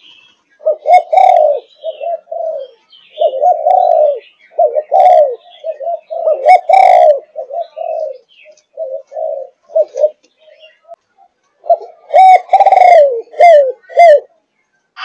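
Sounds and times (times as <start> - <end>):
dove cooing: 0.0 - 14.4.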